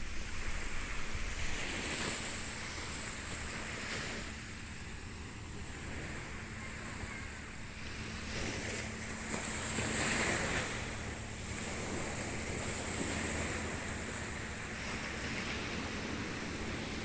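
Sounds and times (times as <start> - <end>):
faint low hum: 0.0 - 17.0
sea water washing: 0.0 - 17.0
wind noise: 0.0 - 17.0.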